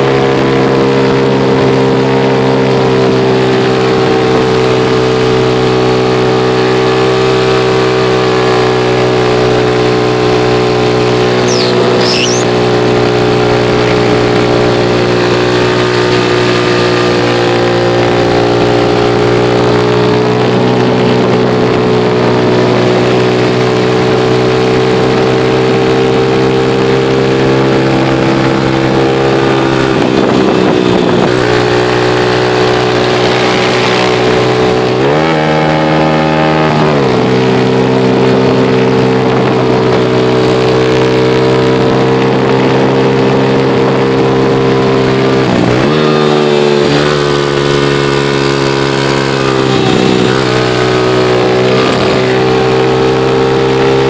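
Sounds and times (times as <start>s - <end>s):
vehicle engine hum: 0.0s - 54.0s.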